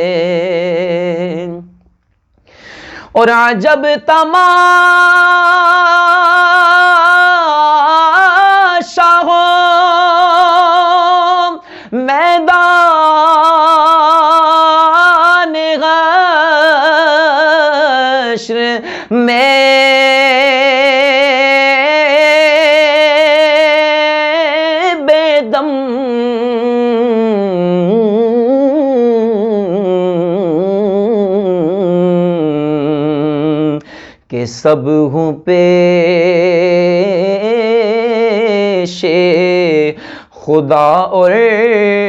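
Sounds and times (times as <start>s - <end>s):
solo voice singing: 0.0s - 1.9s, 3.1s - 42.0s.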